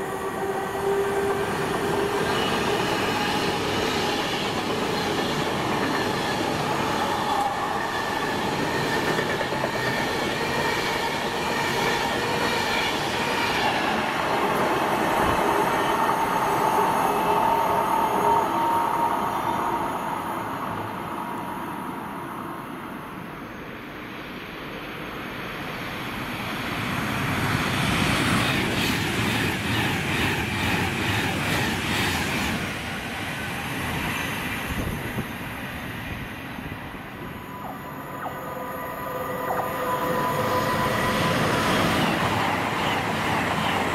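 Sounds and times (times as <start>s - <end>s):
train passing: 0.0s - 43.9s.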